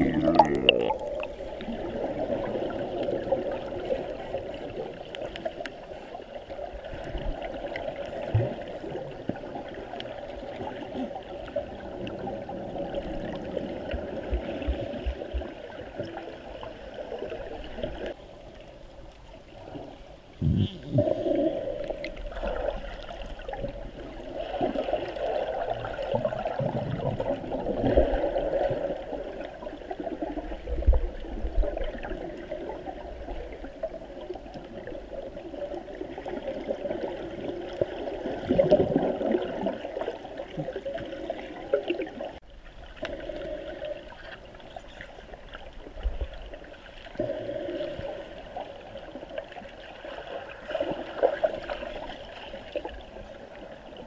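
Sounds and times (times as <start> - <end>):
gurgling sloshing water: 0.0 - 54.0.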